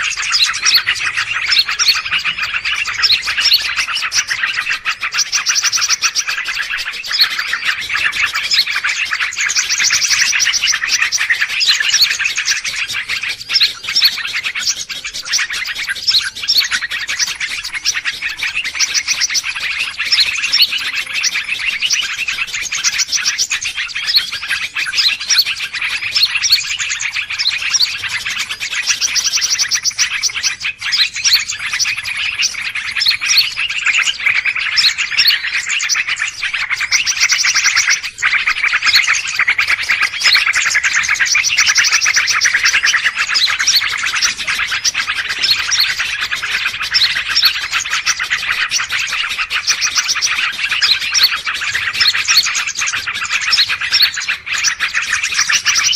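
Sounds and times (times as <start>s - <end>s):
many small birds chirping: 0.0s - 55.9s.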